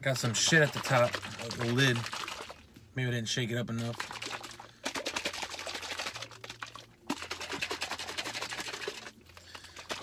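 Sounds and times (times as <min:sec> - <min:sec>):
shaker cup rattling and sloshing: 0:00.1 - 0:02.8, 0:03.7 - 0:10.0.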